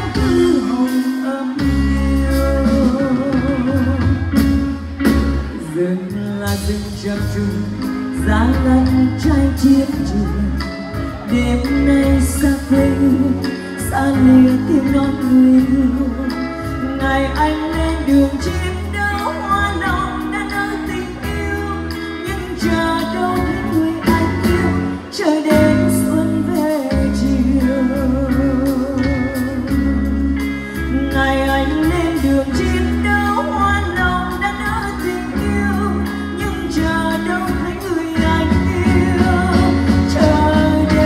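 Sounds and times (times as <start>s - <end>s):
live band playing ballad: 0.0s - 41.0s
person singing: 0.0s - 41.0s.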